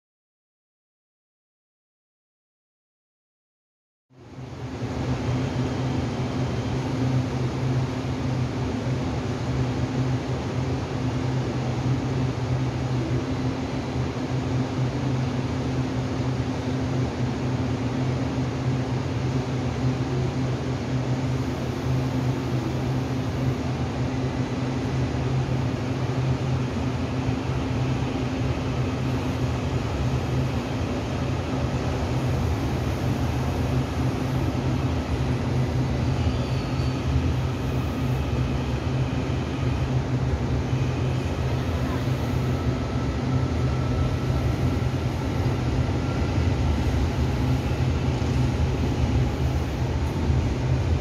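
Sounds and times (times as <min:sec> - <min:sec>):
electric train humming: 0:04.3 - 0:51.0.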